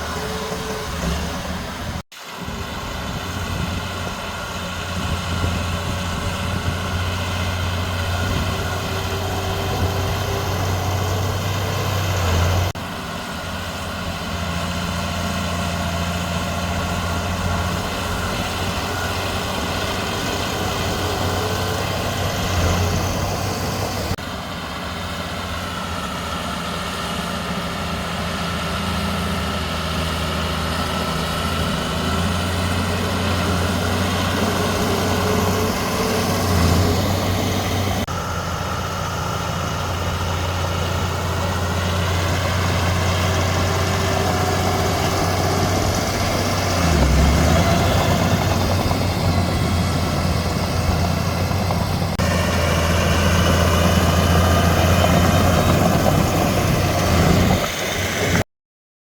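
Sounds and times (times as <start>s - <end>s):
heavy diesel machinery engine running: 0.0s - 58.4s.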